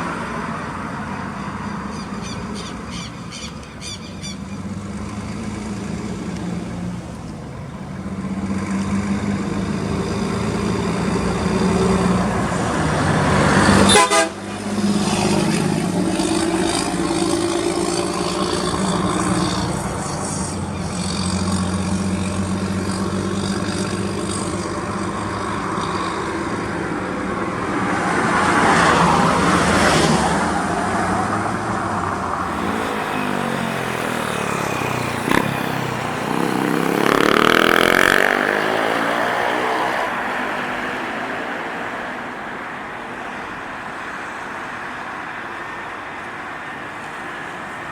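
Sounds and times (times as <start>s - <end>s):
heavy truck diesel engines passing: 0.0s - 47.9s.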